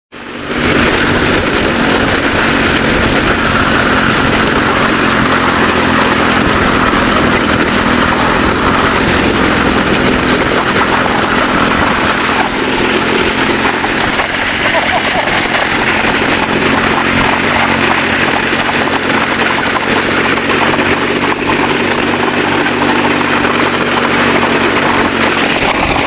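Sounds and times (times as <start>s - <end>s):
car engine hum: 0.1s - 26.0s
tyres on gravel: 0.2s - 26.0s.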